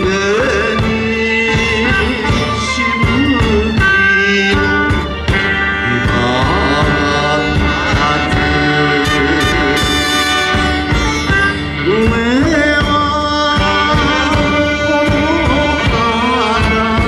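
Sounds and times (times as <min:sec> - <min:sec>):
live band playing: 0:00.0 - 0:17.0
man singing into a microphone: 0:00.0 - 0:17.0.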